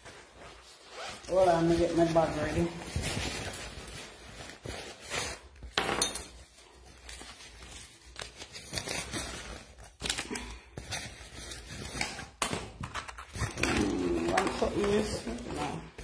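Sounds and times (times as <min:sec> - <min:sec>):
rustling and crinkling of items: 0:00.0 - 0:16.0.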